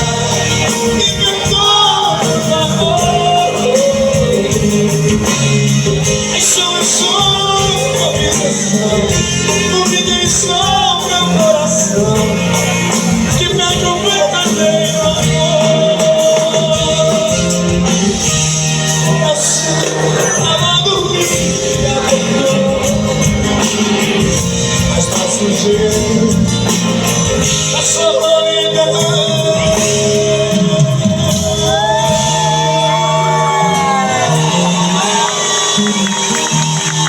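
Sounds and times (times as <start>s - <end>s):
band music with guitar: 0.0s - 37.0s
person singing: 0.0s - 37.0s.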